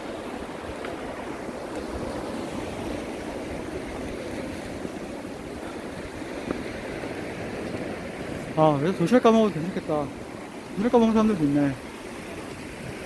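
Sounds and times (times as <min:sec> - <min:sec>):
waves washing against rocks: 0:00.0 - 0:13.0
wind rumbling on microphone: 0:00.0 - 0:13.0.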